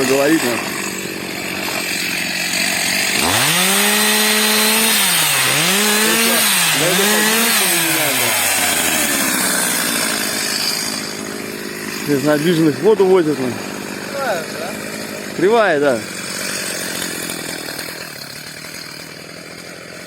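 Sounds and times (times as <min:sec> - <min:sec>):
chainsaw sawing wood: 0:00.0 - 0:20.0.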